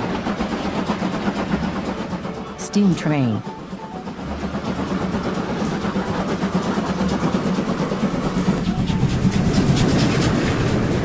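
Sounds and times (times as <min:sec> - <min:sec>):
steam locomotive running past: 0:00.0 - 0:11.0.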